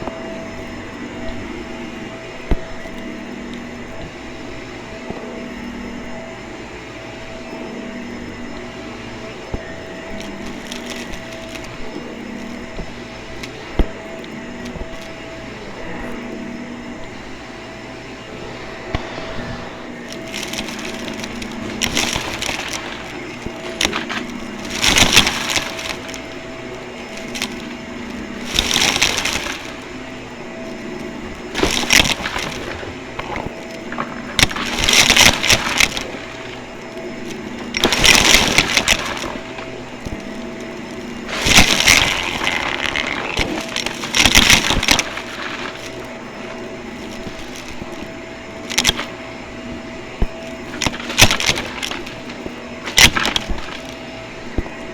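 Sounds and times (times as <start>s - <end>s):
vacuum cleaner motor humming: 0.0s - 54.9s
vacuum rushing over floor: 0.0s - 54.9s.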